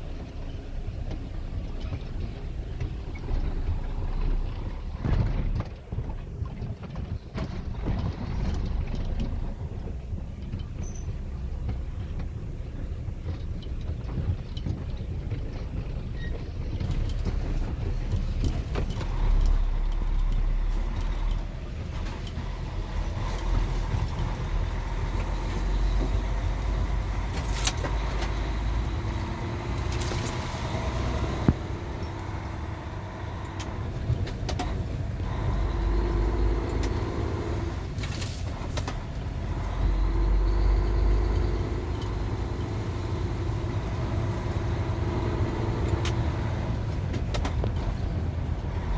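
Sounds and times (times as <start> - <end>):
truck engine and road rumble: 0.0 - 48.9.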